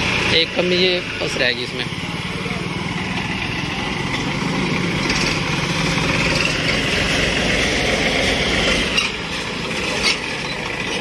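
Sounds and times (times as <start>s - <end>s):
tractor diesel engine: 0.0s - 11.0s.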